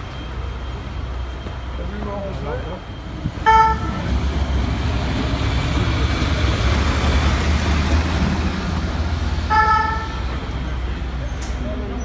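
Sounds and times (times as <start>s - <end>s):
fire engine rumble: 0.0s - 12.0s
tyres on cobblestones: 0.0s - 12.0s.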